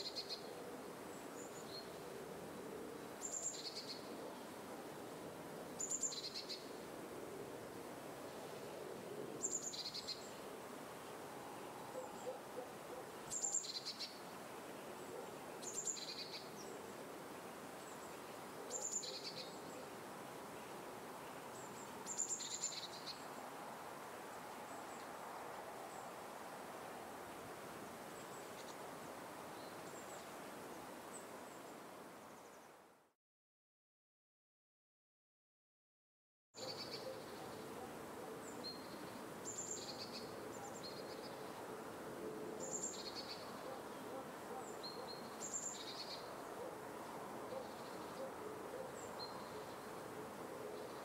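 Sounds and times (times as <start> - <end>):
steady background hiss: 0.0 - 33.1, 36.6 - 51.0.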